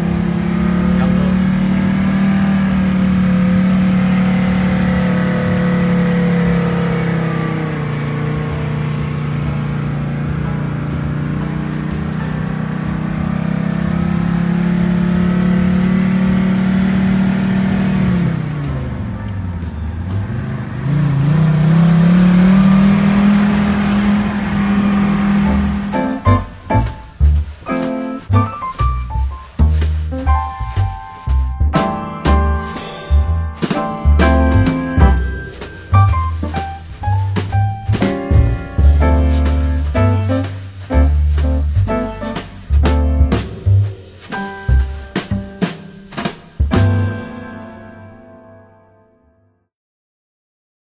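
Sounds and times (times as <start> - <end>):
vehicle engine running: 0.0 - 47.1.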